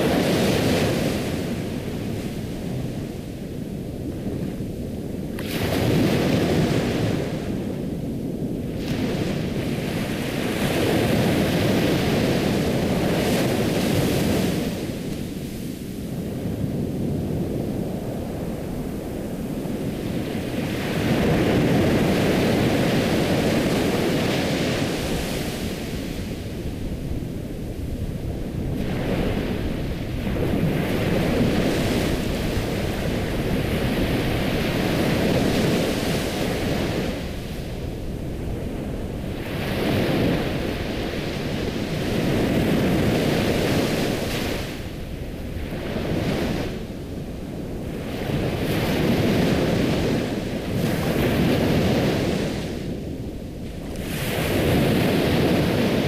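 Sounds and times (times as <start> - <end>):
waves breaking on a shore: 0.0 - 56.0.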